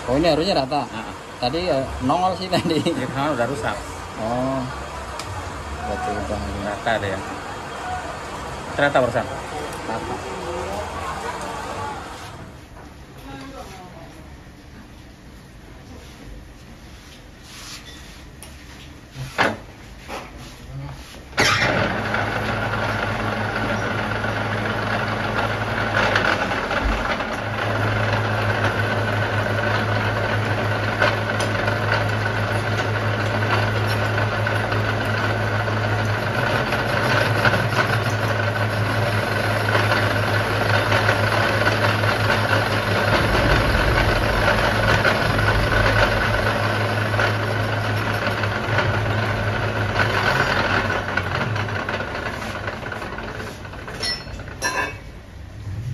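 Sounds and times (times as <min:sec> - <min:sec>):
metal lathe running: 0:00.0 - 0:12.6, 0:21.4 - 0:55.0.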